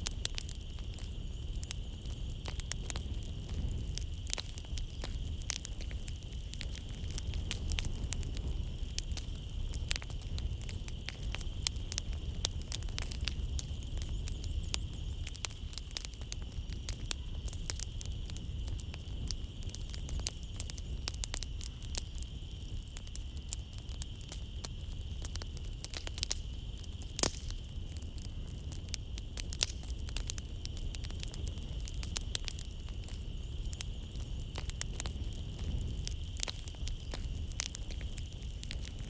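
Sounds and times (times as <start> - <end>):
night insects chirring: 0.0 - 39.0
wood fire crackling: 0.0 - 39.0.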